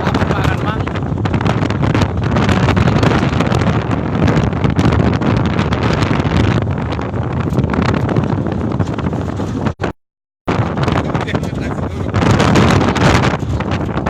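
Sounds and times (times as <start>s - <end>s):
moving truck road noise: 0.0s - 14.0s
wind buffeting microphone: 0.0s - 14.0s.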